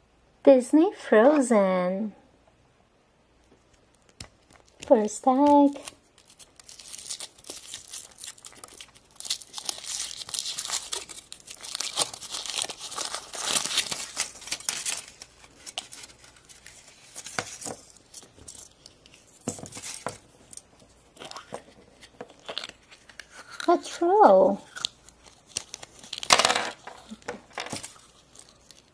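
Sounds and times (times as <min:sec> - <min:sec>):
foil wrapper crinkling and tearing: 0:03.5 - 0:28.9.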